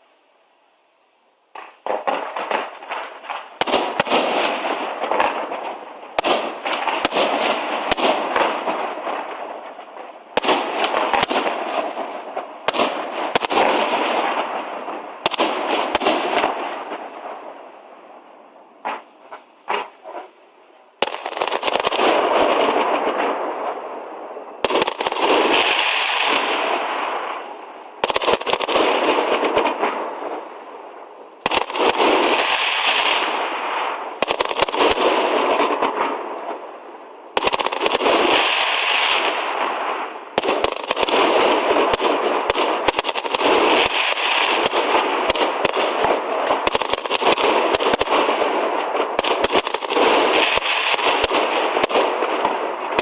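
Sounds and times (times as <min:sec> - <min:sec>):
fireworks crackling and popping: 0:01.4 - 0:53.0.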